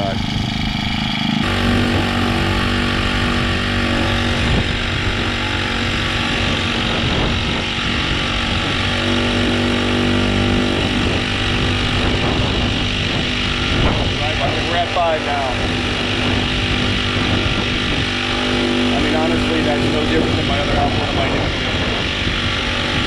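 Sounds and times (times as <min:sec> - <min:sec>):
small engine running up close: 0:00.0 - 0:23.0.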